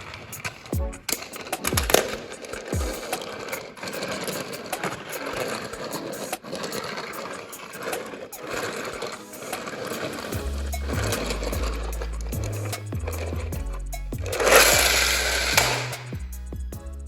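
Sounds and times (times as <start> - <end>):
toy cars rattling on wheels: 0.0 - 13.5, 14.2 - 16.1.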